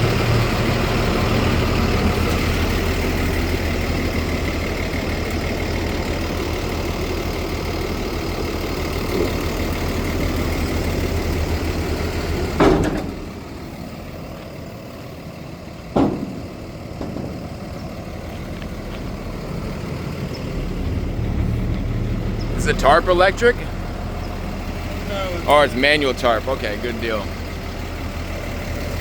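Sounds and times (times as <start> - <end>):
truck diesel engine idling: 0.0 - 29.0.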